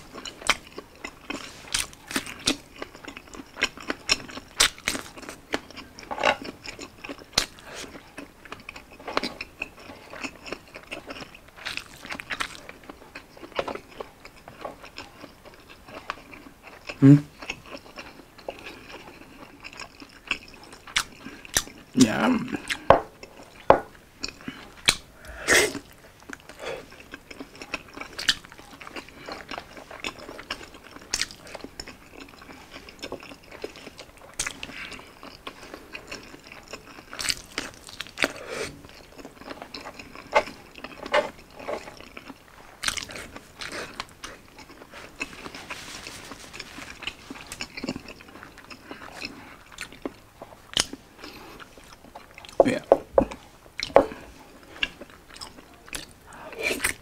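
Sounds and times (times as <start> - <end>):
chewing and biting food: 0.0 - 56.2.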